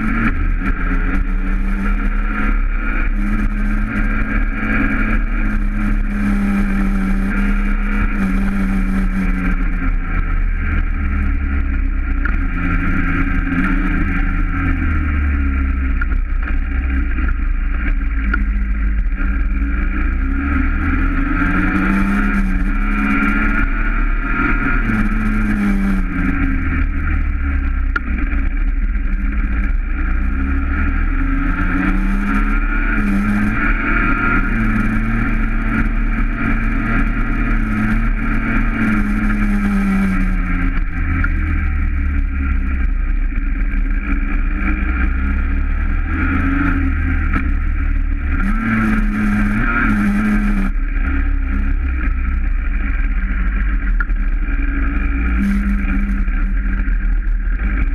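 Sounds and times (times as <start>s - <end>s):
small two-stroke motorbike engine revving: 0.0s - 57.9s.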